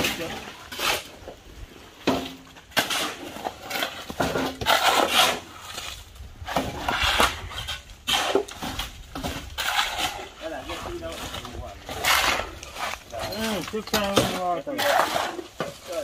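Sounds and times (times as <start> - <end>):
shovels scraping wet concrete: 0.0 - 1.4, 2.1 - 16.0.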